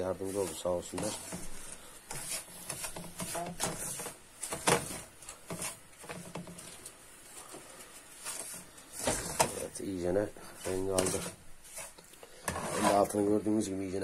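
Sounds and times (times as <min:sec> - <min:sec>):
wooden spoon scraping pan: 0:00.0 - 0:13.6.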